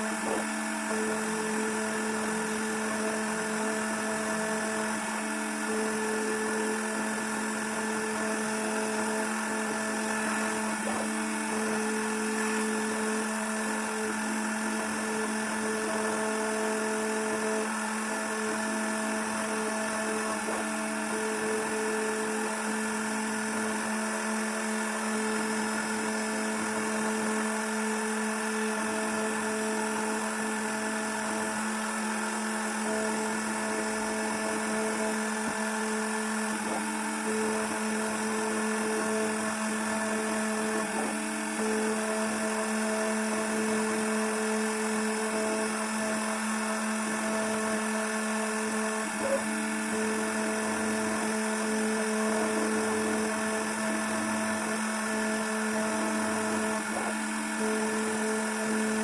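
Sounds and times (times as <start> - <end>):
router spindle whine: 0.0 - 59.0.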